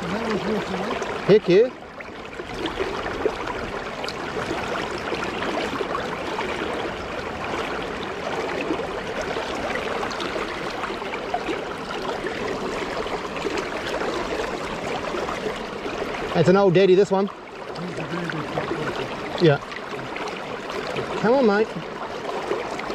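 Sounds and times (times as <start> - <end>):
flowing water: 0.0 - 22.9.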